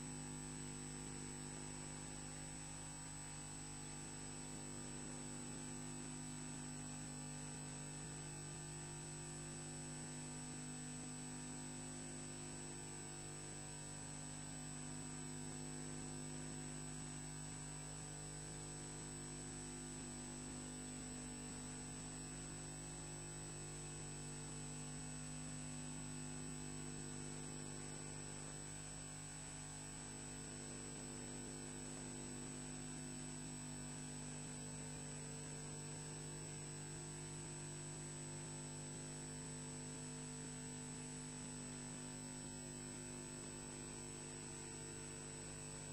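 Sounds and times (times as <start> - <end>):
electrical hum with high whine: 0.0 - 45.9.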